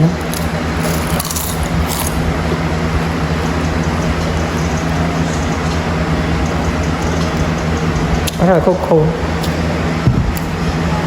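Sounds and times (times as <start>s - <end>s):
machine humming: 0.0s - 11.0s
steady rushing noise: 0.0s - 11.0s.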